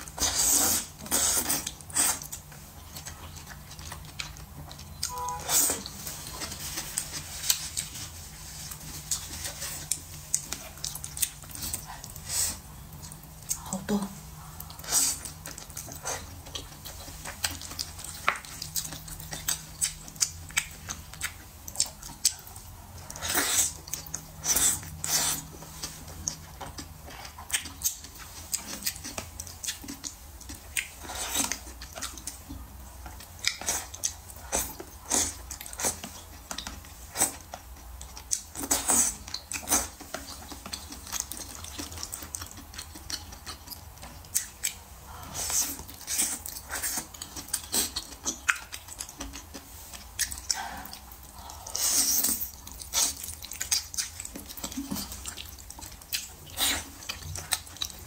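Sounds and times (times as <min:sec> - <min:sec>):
wet smacking chewing: 0:00.0 - 0:13.6, 0:14.3 - 0:58.0.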